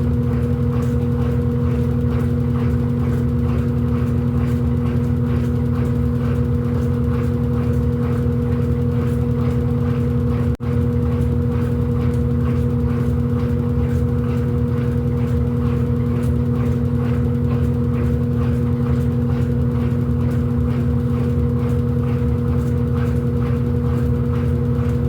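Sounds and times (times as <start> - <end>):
washing machine motor hum: 0.0 - 25.0.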